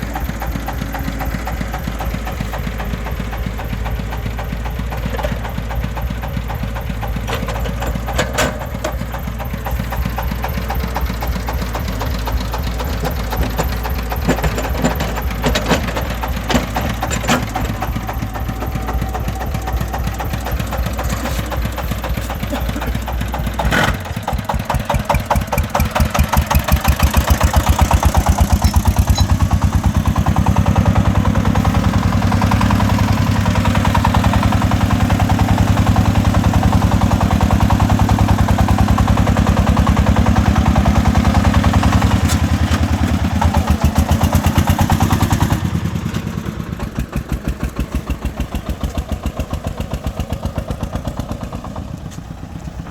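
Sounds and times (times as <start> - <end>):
diesel engine chugging: 0.0 - 52.9.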